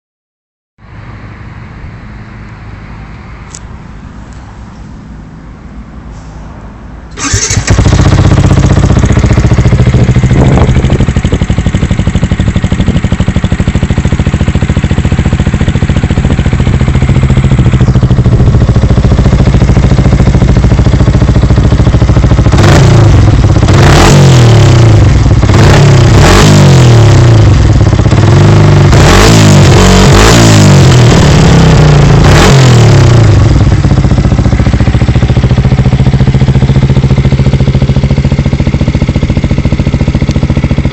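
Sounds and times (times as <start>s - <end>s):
motorcycle engine revving: 7.1s - 40.9s.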